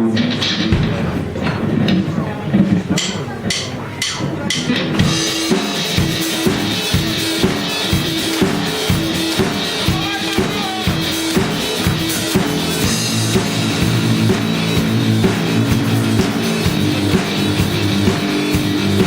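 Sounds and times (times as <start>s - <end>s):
drum kit beat: 0.0s - 19.0s
sustained bass notes: 0.0s - 19.0s.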